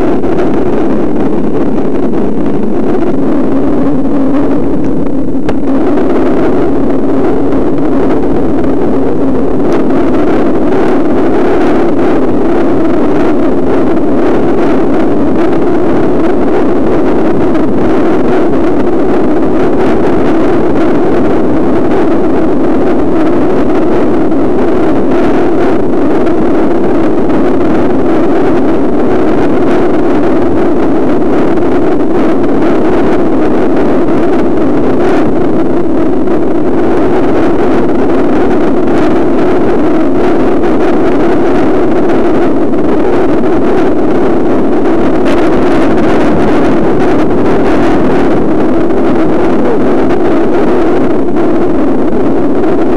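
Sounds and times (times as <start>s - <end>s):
road noise: 0.0s - 50.2s
wind noise: 0.0s - 52.9s.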